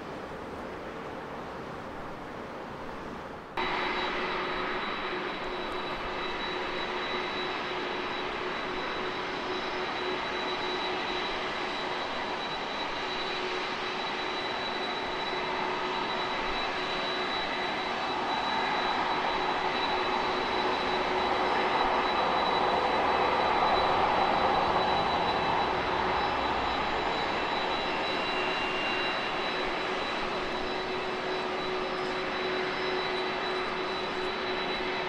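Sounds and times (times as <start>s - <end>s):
high engine whine: 2.9s - 35.0s
jet engines rushing: 2.9s - 35.0s.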